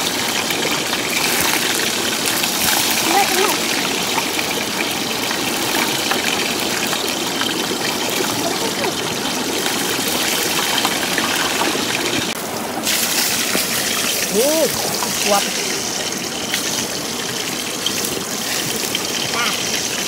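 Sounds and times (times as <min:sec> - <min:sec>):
hot oil trickling: 0:00.0 - 0:20.0
stream running over rocks: 0:00.0 - 0:20.0.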